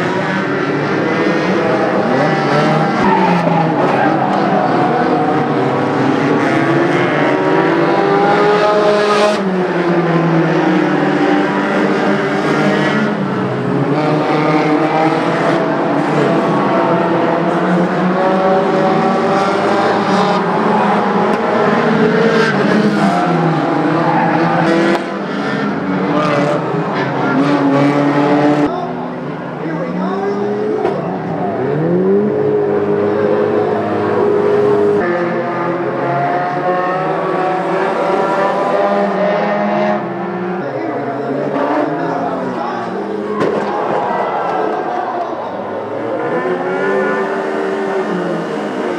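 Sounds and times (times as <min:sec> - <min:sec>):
racing car engines: 0:00.0 - 0:48.9.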